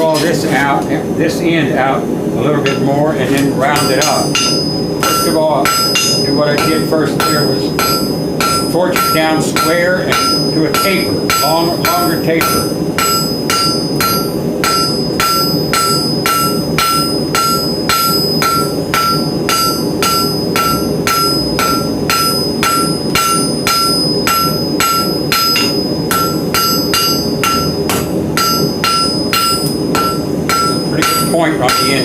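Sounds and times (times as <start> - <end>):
hammer striking steel on anvil: 2.6 - 32.0.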